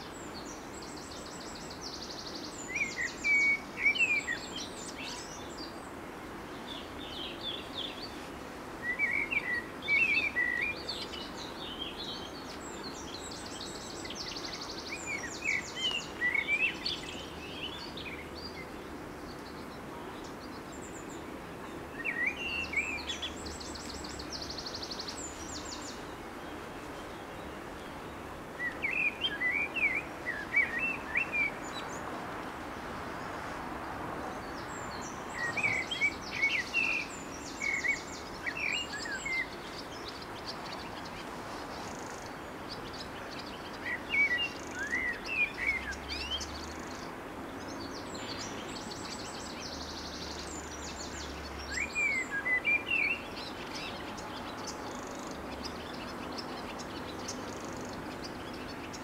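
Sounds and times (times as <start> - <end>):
songbird chirping and trilling: 0.0 - 59.0
steady background hiss: 0.0 - 59.0.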